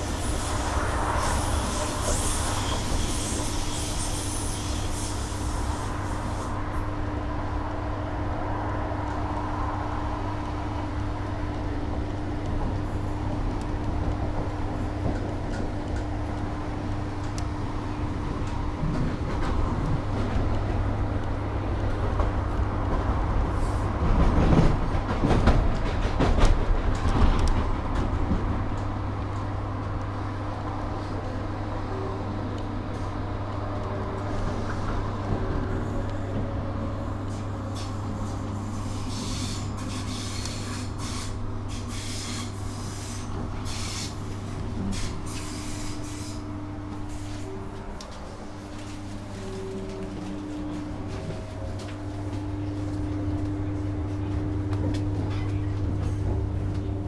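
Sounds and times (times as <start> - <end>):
train running hum: 0.0 - 57.0.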